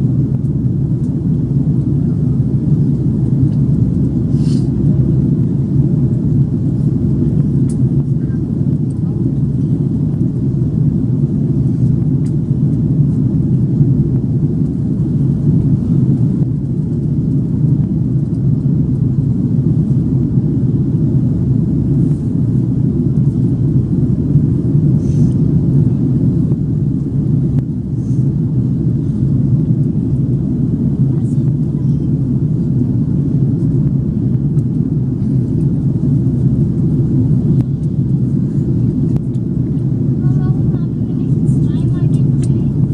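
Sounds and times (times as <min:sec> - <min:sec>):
aircraft cabin drone: 0:00.0 - 0:42.9.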